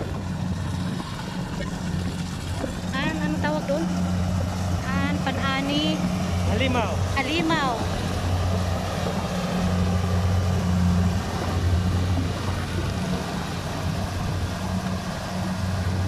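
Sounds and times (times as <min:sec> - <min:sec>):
combine harvester engine hum: 0:00.0 - 0:16.0
machinery noise: 0:00.0 - 0:16.0.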